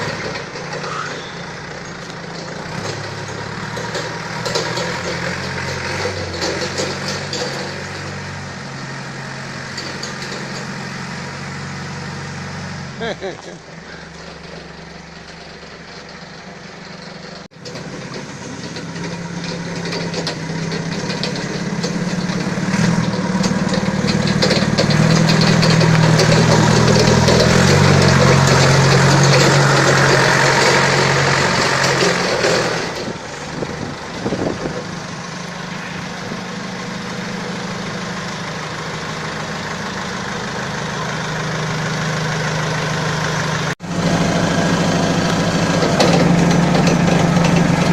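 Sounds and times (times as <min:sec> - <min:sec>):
forklift engine running: 0:00.0 - 0:47.9.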